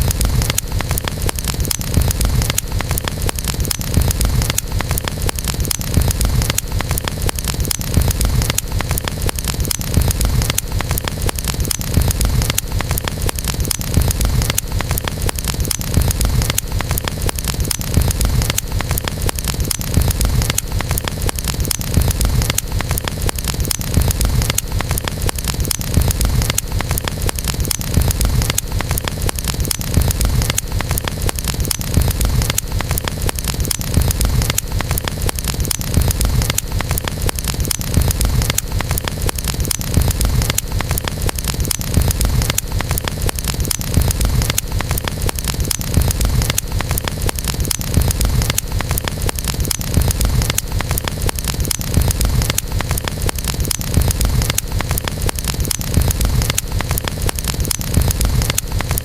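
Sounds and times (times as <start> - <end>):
campfire crackling: 0.0 - 59.0
fire low rumble: 0.0 - 59.0.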